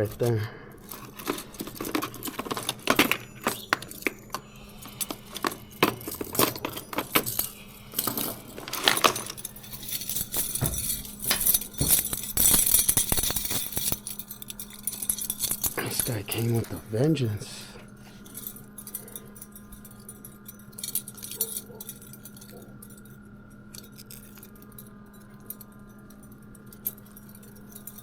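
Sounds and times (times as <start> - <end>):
small metal objects clinking: 0.0 - 28.0.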